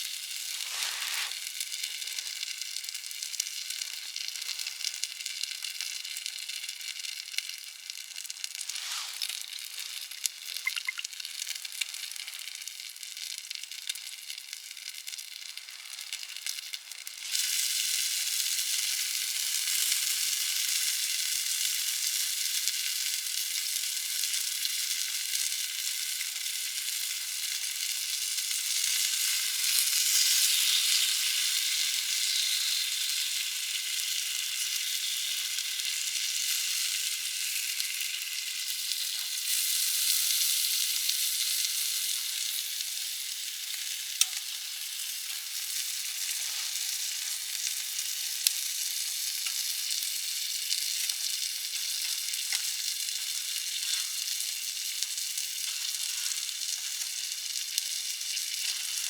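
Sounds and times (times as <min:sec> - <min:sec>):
fire sizzling hiss: 0:00.0 - 0:12.8, 0:15.5 - 0:59.0.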